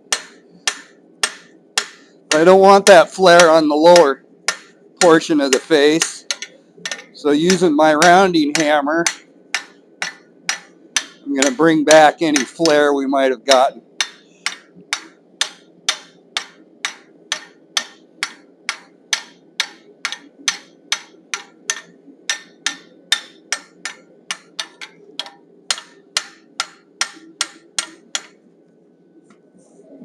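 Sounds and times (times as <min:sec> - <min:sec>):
steady low hum: 0:00.0 - 0:30.0
hammer striking steel on anvil: 0:00.1 - 0:28.4.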